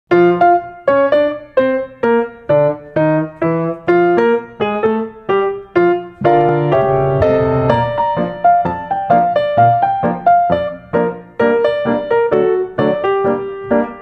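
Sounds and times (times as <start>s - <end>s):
piano music: 0.1s - 14.0s.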